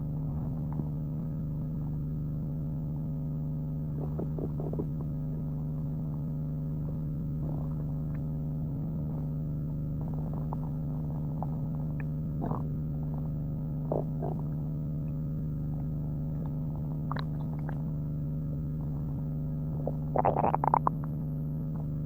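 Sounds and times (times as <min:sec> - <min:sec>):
low steady hum: 0:00.0 - 0:22.0
stomach growling: 0:00.0 - 0:22.0.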